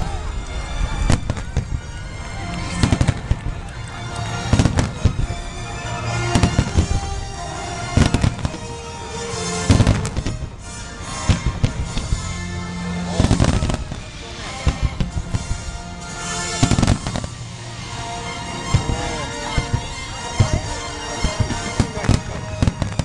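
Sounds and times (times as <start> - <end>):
fireworks bangs: 0.0 - 23.0
music playing: 0.0 - 23.0.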